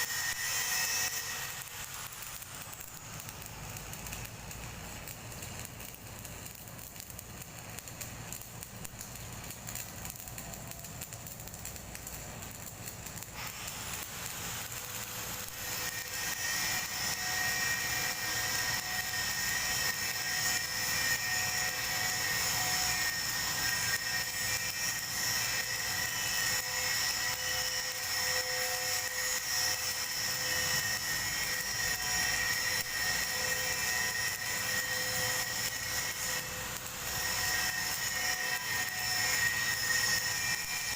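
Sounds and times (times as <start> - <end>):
crackling hiss: 0.0 - 40.9.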